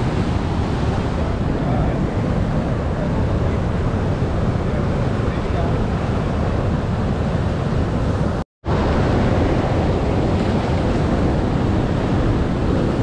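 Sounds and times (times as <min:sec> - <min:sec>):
water rushing over weir: 0:00.0 - 0:13.0
wind on microphone: 0:00.0 - 0:13.0.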